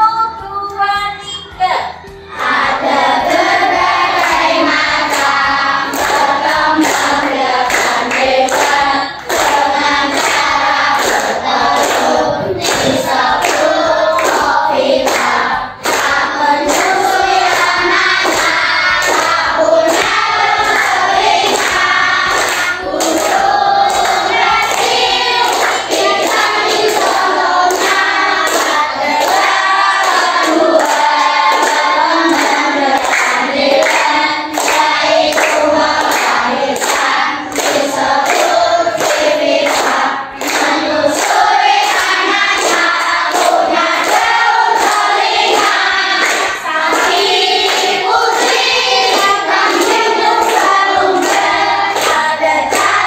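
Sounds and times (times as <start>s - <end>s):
children singing together: 1.8s - 53.0s.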